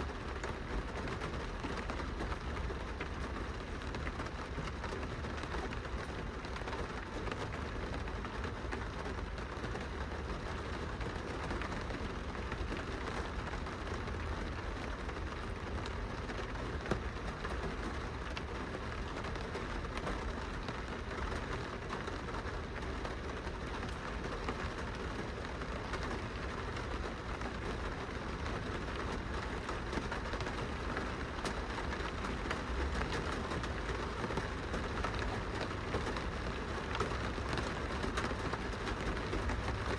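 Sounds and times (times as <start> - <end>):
rain on a glass window: 0.0 - 39.9.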